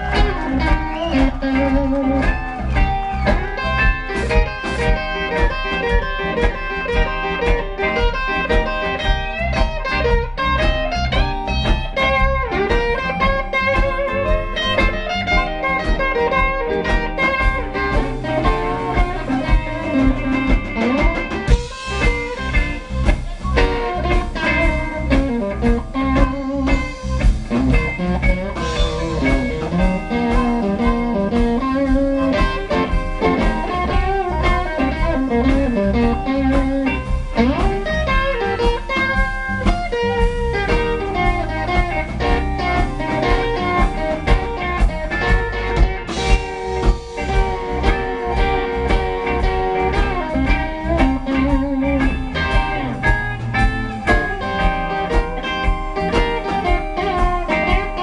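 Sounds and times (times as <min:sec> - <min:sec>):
drum kit: 0:00.0 - 0:58.0
electric guitar: 0:00.0 - 0:58.0
live blues band playing: 0:00.0 - 0:58.0.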